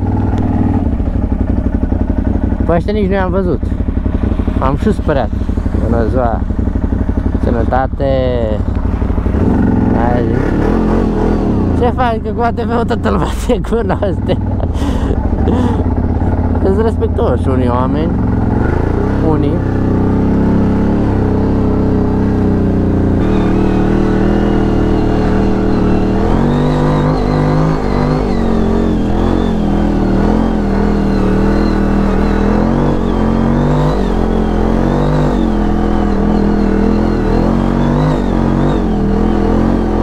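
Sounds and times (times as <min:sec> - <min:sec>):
atv engine revving: 0:00.0 - 0:40.0.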